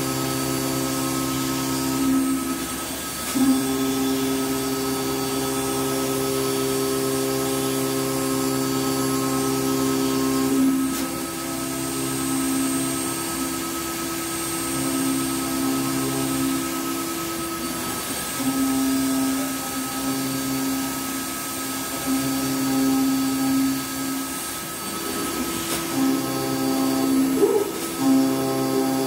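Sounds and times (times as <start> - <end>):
cnc router spindle whine: 0.0 - 29.0.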